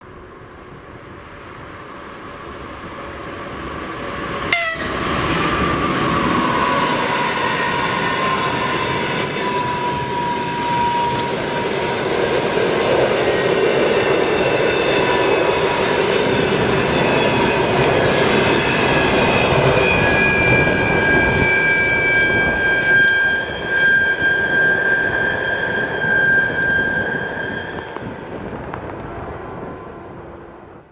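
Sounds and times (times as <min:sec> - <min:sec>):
train rumble: 0:00.0 - 0:30.9
locomotive whistling: 0:01.0 - 0:30.6.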